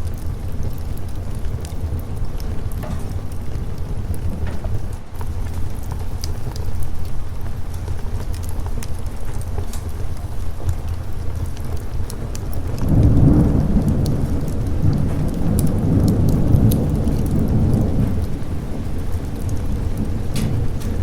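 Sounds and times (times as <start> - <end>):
steady rain: 0.0 - 21.0
thunder rumble: 0.0 - 21.0.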